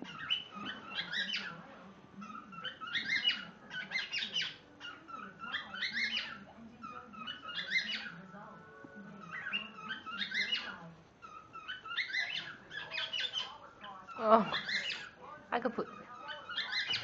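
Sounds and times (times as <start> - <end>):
cockatiel chirping: 0.0 - 1.6, 2.2 - 8.3, 9.2 - 15.2, 15.8 - 17.0.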